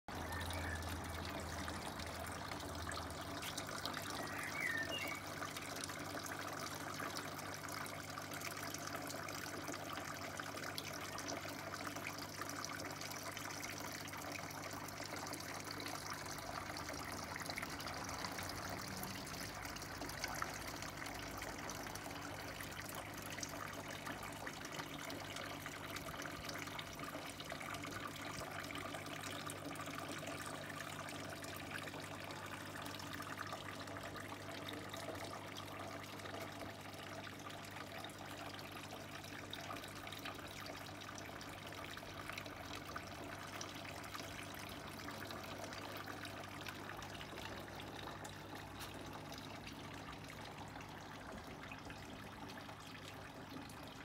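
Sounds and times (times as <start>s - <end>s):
water trickling into barrel: 0.1s - 54.0s.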